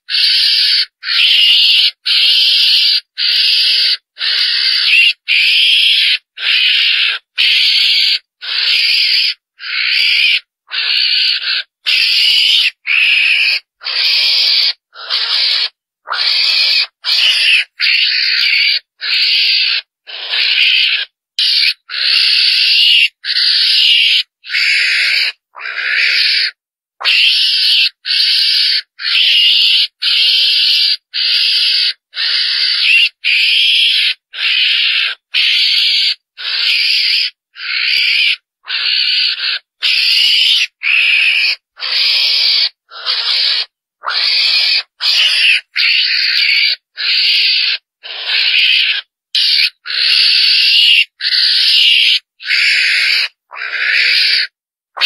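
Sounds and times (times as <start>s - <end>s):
animal high rasping calls: 0.0s - 55.0s.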